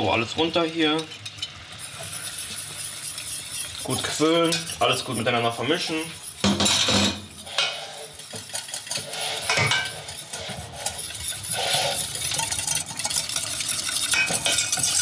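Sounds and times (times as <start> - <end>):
utensil scraping a pot: 0.0 - 15.0.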